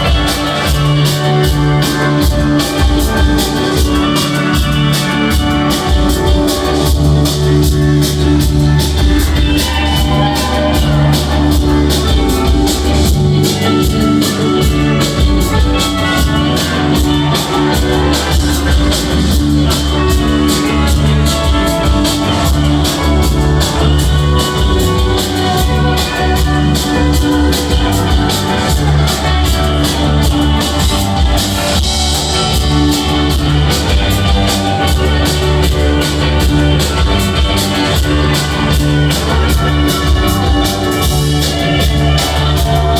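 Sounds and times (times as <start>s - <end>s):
bass guitar: 0.0s - 42.9s
drum kit beat: 0.0s - 42.9s
electric guitars: 0.0s - 42.9s.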